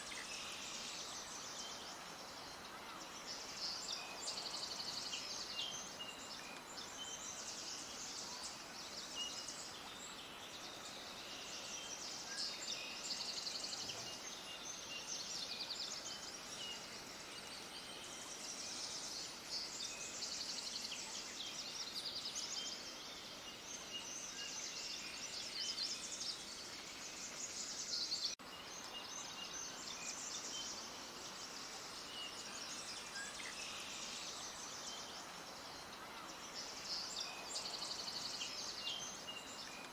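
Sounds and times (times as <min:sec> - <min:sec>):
faint steady hiss: 0:00.0 - 0:39.9
small birds chirping: 0:00.0 - 0:39.9.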